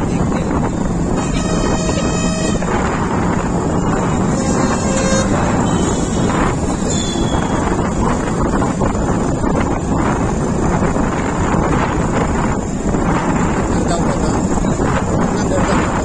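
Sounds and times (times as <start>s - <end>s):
motorcycle engine cruising: 0.0s - 13.7s
wind rushing over microphone: 0.0s - 16.0s.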